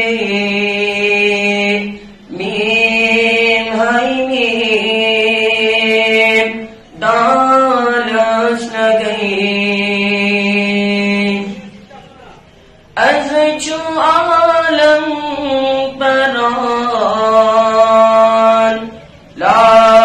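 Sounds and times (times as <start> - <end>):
person singing unaccompanied: 0.0 - 11.9, 12.9 - 20.0.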